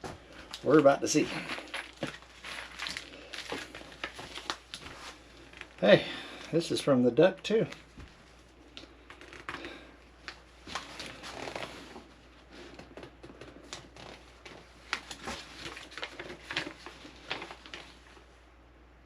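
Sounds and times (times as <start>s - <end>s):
packaging rustling: 0.0s - 18.3s.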